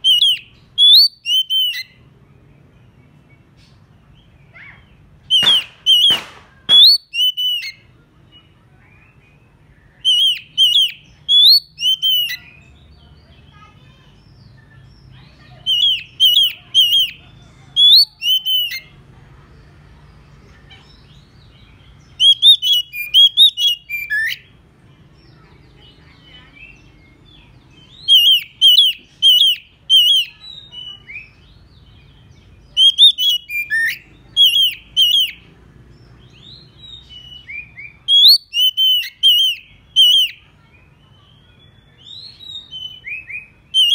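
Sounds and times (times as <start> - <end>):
bird whistled song: 0.0 - 19.0, 20.8 - 24.5, 25.2 - 43.9.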